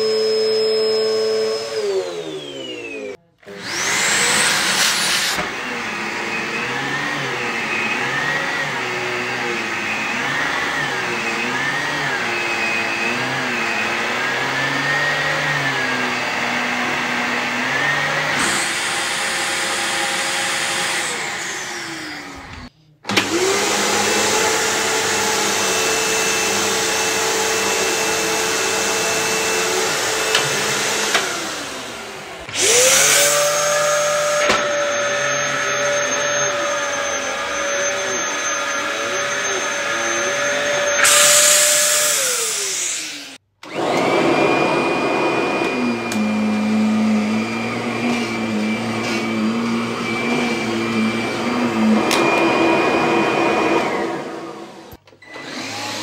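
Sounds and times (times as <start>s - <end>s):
electric motor humming and whining: 0.0s - 56.0s.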